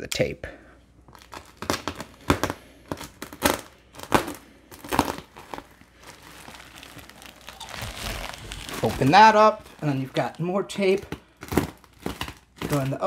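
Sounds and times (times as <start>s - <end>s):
plastic wrap crinkling and tearing: 1.1s - 13.0s.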